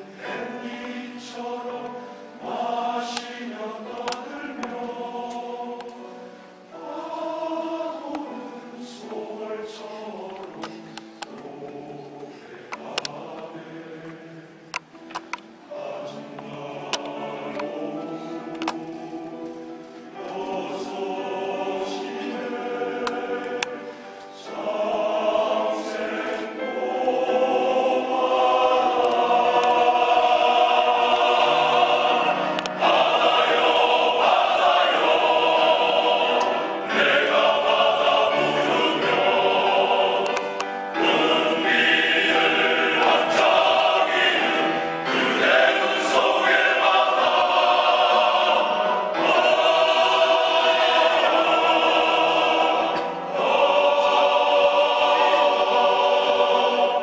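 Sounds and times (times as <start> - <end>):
men's choir singing: 0.0 - 57.0.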